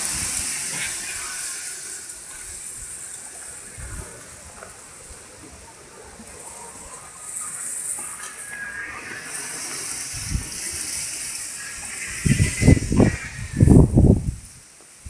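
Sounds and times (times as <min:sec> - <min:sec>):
glider whooshing overhead: 0:00.0 - 0:14.6
wind buffeting microphone: 0:00.0 - 0:15.0.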